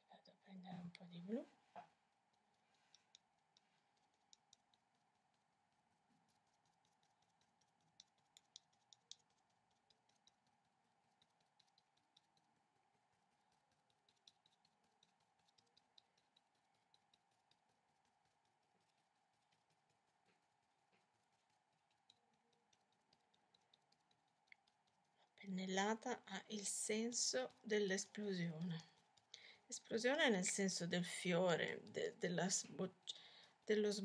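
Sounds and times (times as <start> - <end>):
faint steady hum: 0.0 - 34.0
paintbrush dabbing on paper: 0.4 - 34.0.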